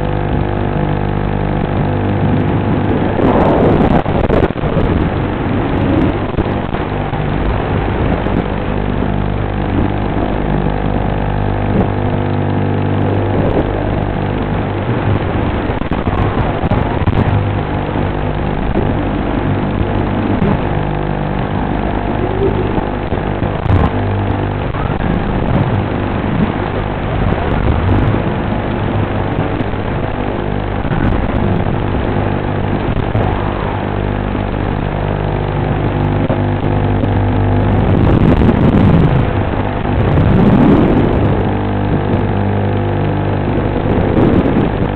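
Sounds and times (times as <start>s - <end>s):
drone propellers buzzing: 0.0s - 44.9s.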